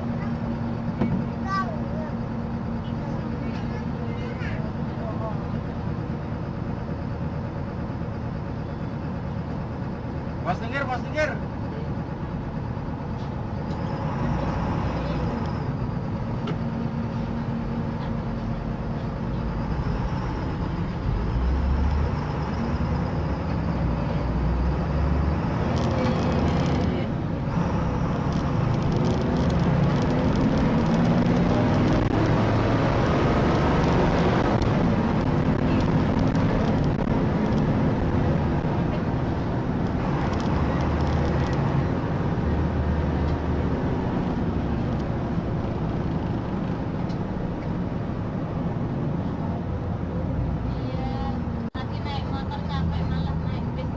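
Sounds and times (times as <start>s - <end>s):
car engine and road noise: 0.0s - 53.9s.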